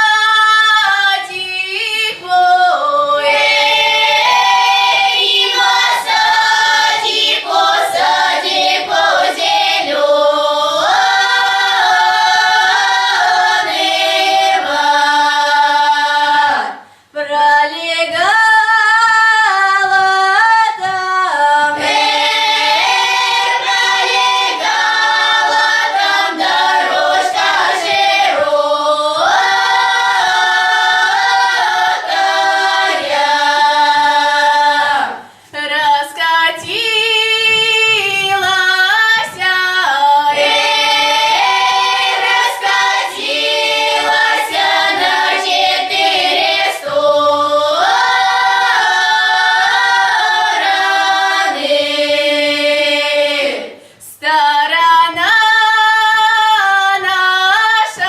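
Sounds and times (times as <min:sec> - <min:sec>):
female choir singing: 0:00.0 - 0:58.0.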